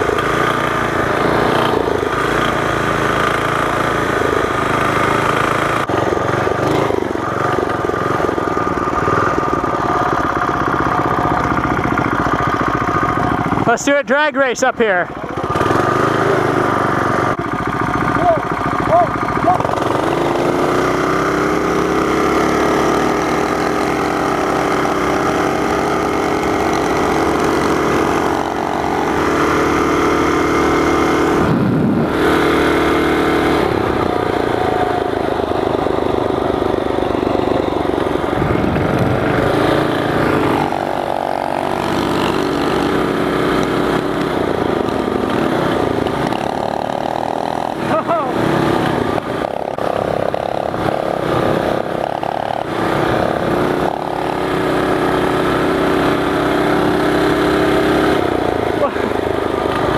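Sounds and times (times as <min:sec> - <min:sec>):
mini bike engines at high revs: 0:00.0 - 0:59.9.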